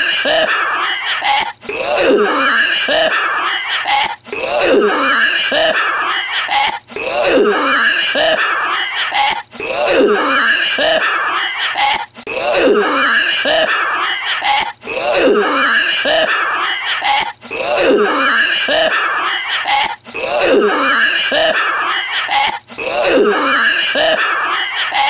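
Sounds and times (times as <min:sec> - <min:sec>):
man coughing and wheezing: 0:00.0 - 0:25.0.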